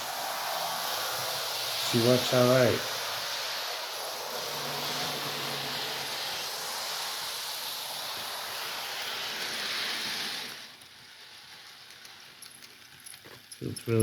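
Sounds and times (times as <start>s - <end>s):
model steam locomotive hissing: 0.0s - 14.0s.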